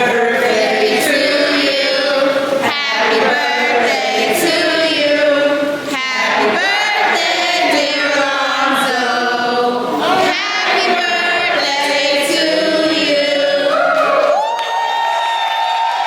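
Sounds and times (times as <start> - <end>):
group chanting and singing: 0.0 - 14.4.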